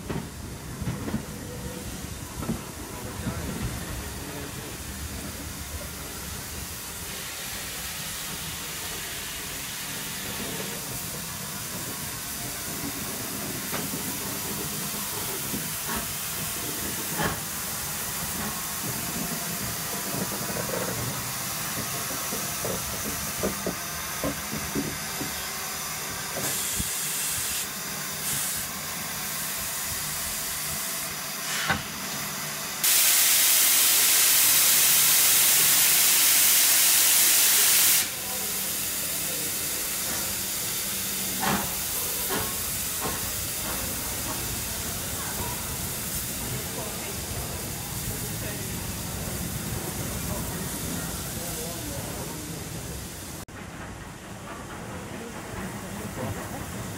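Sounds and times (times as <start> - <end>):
steam hissing: 0.0 - 53.4
loud rush of steam: 0.0 - 53.5.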